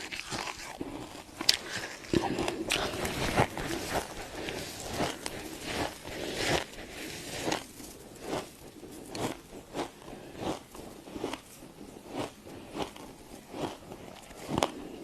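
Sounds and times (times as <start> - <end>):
frost being bitten and chewed: 0.0 - 15.0.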